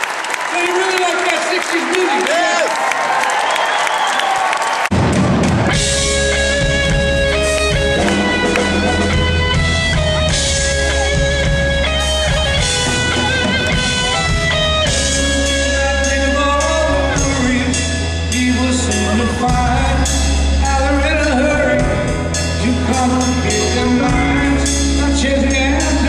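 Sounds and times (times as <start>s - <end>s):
bass guitar: 4.9s - 26.0s
electric guitar: 4.9s - 26.0s.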